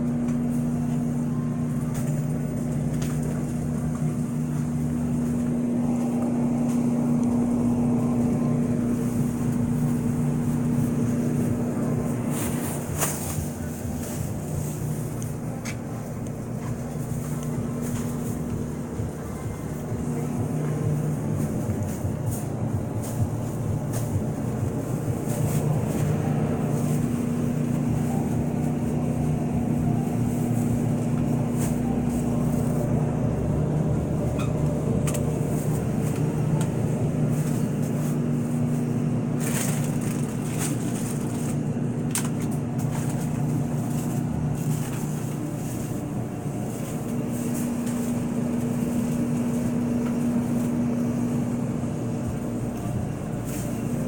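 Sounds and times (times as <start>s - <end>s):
electrical hum of refrigerated cases: 0.0s - 54.0s
low tone: 0.0s - 54.0s.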